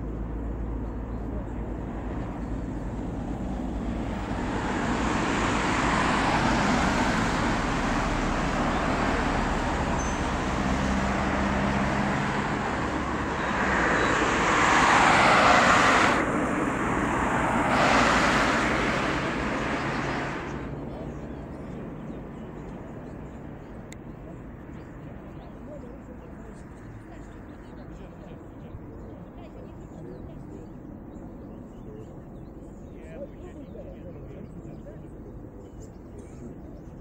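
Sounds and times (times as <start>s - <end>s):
cars driving past: 0.0s - 32.7s.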